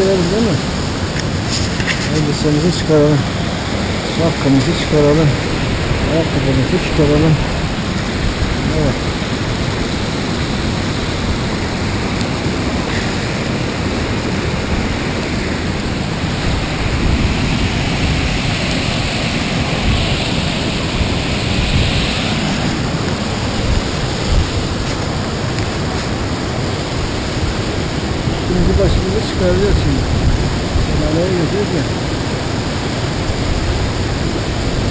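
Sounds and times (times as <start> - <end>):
waterfall rushing roar: 0.0 - 34.9.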